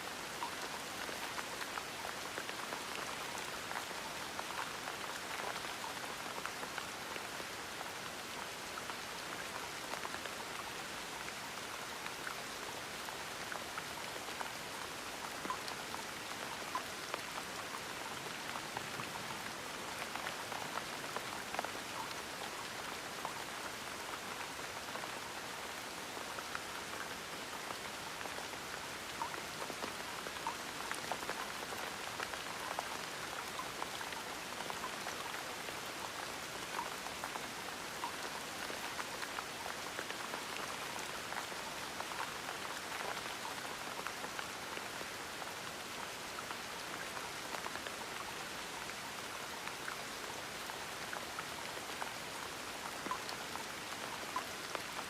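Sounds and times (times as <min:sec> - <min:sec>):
gentle rain: 0:00.0 - 0:55.0
raindrops pattering on a surface: 0:00.0 - 0:55.0.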